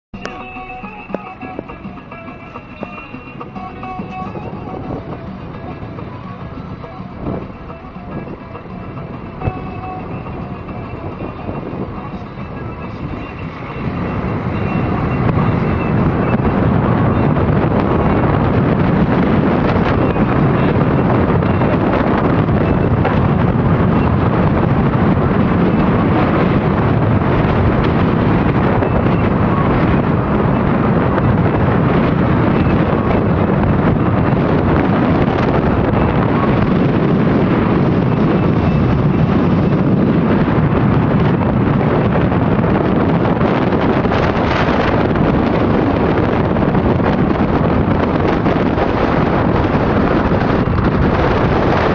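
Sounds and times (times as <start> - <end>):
road noise: 0.1 - 51.9
wind rushing over microphone: 0.2 - 51.9.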